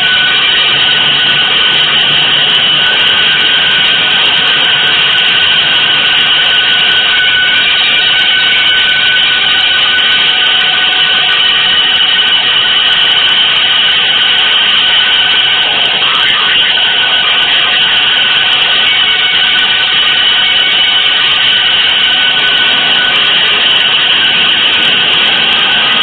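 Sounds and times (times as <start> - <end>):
noise music rushing drone: 0.0 - 26.0.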